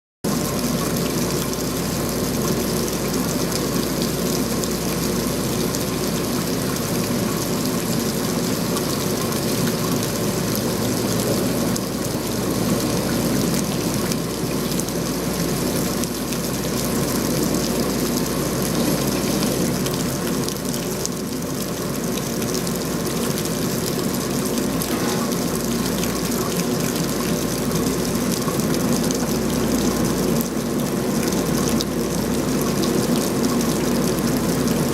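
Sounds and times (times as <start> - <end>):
steady rain falling: 0.3 - 34.9.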